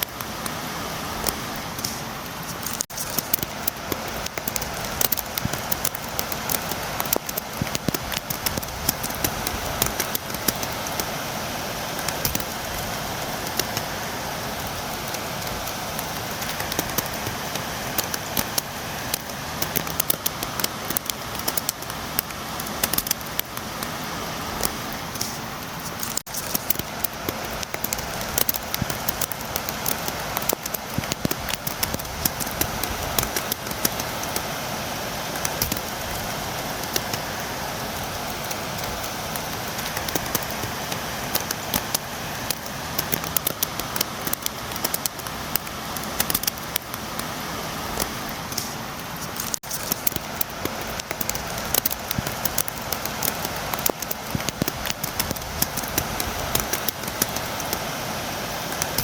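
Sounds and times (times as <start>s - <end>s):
rain on a windowpane: 0.0s - 59.0s.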